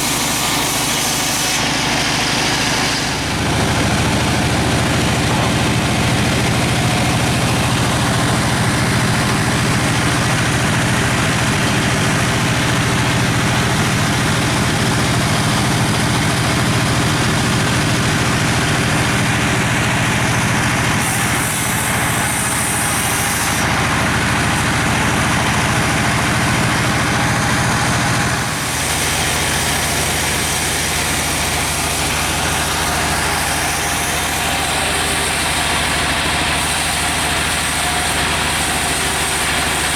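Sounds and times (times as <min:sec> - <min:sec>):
sawmill machinery running: 0:00.0 - 0:39.9
low engine hum: 0:01.6 - 0:39.9.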